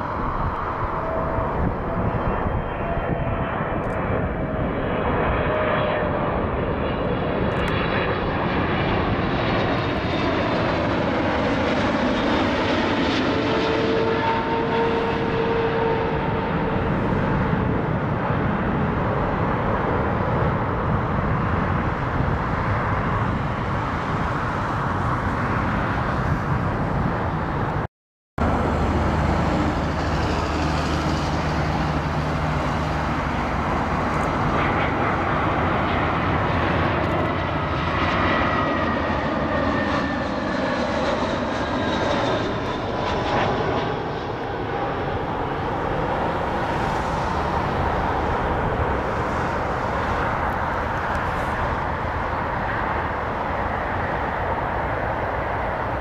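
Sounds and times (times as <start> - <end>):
jet airliner landing rumble: 0.0 - 56.0
jet engines whining overhead: 0.0 - 56.0.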